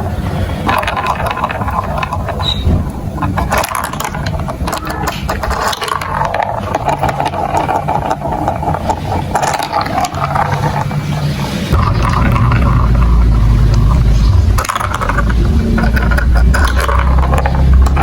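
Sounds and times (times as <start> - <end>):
marbles rolling and clattering: 0.0 - 18.0.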